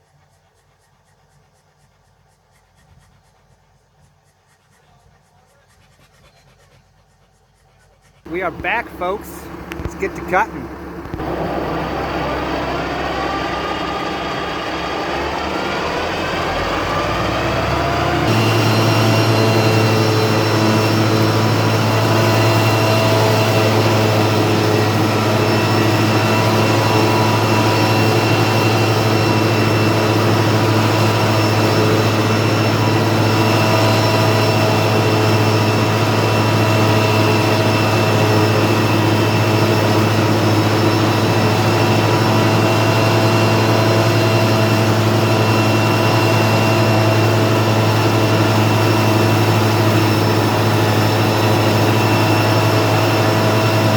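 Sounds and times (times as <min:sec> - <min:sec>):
tractor engine drone: 0:08.3 - 0:53.9.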